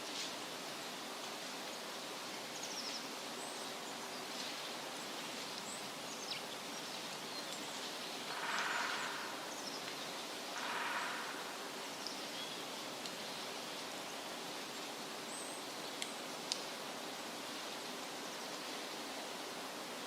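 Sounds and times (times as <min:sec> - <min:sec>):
wind rustling leaves: 0:00.0 - 0:20.0.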